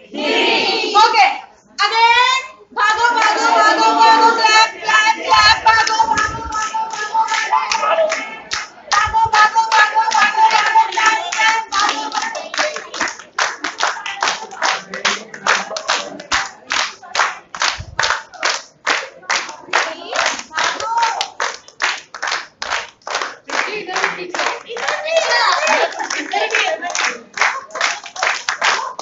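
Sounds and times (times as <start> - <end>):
group singing: 0.0 - 1.0, 2.7 - 20.6, 23.5 - 27.9
group clapping hands: 3.1 - 29.0.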